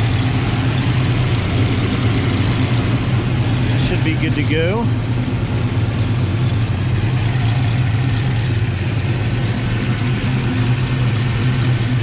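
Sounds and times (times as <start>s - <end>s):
turbocharged engine idling: 0.0s - 12.0s.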